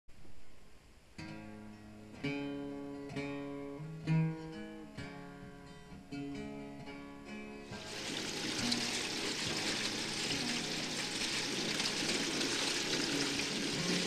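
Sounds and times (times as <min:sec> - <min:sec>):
acoustic guitar music: 0:01.1 - 0:14.0.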